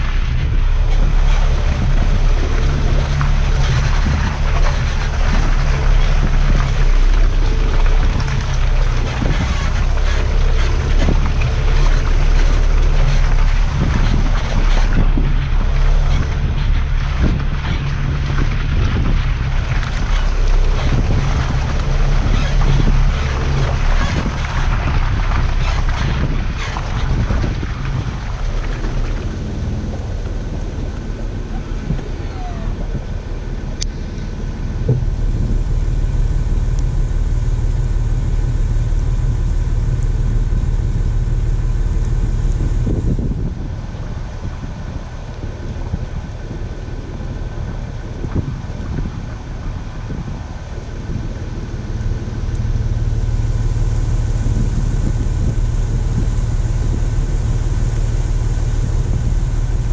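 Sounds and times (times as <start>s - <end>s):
engine idling: 0.0s - 59.9s
vehicle engine running: 0.0s - 59.9s
wind on microphone: 0.0s - 59.9s.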